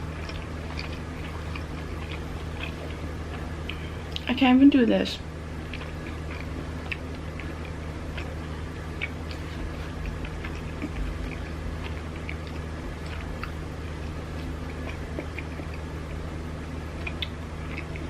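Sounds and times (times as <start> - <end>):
wet chewing mouth sounds: 0.0 - 4.3, 5.4 - 18.0
steady low hum: 0.0 - 18.0.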